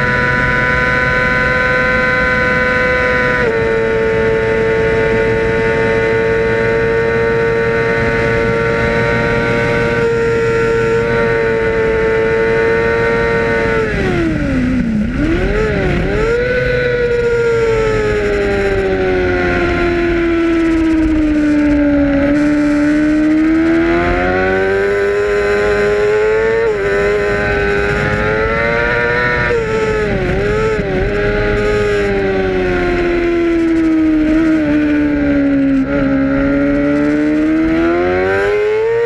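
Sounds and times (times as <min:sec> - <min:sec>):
racing motorcycle engine: 0:00.0 - 0:39.0.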